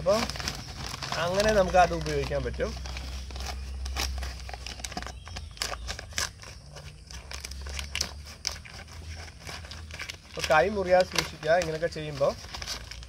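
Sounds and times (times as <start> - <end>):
plastic crinkling: 0.0 - 13.0
scissors cutting plastic sack: 0.0 - 13.0.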